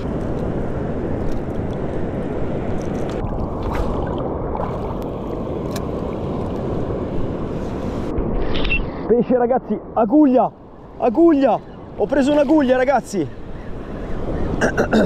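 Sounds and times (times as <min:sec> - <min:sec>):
sea water rushing over reef: 0:00.0 - 0:13.3.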